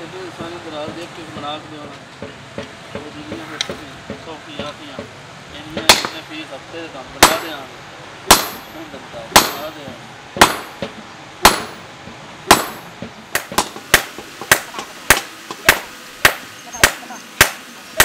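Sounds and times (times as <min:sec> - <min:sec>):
hammer striking hot metal: 0:00.4 - 0:06.4, 0:07.2 - 0:18.0.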